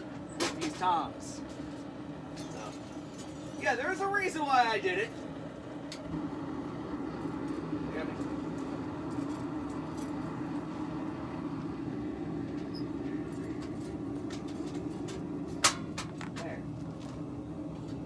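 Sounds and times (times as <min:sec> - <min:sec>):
forge roaring: 0:01.9 - 0:17.8.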